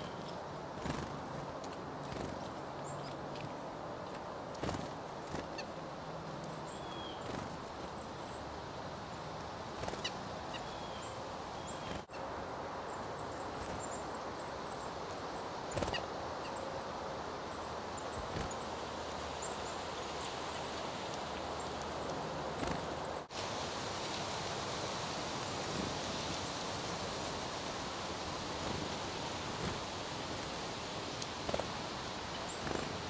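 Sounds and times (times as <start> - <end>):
outdoor background noise: 0.0 - 33.0
songbirds chirping: 0.0 - 33.0.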